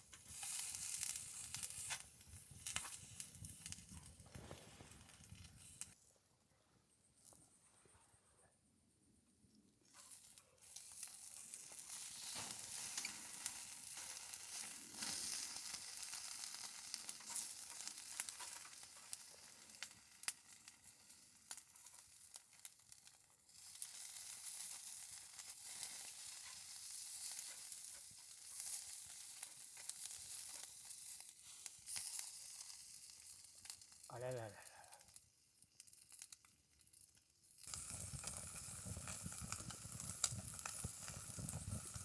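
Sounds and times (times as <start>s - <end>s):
food sizzling in a pan: 0.0s - 5.0s, 10.0s - 34.3s, 37.4s - 42.0s.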